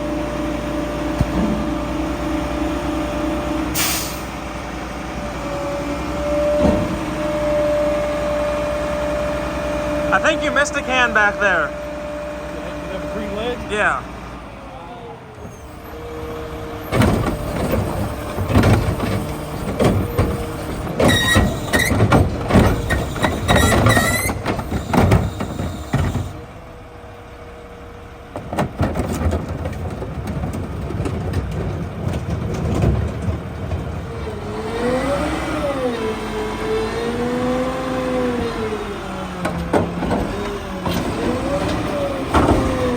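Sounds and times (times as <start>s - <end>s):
garbage truck bangs and clatter: 0.0s - 14.4s, 15.6s - 26.4s, 28.1s - 42.9s
diesel engine running and revving: 0.0s - 42.9s.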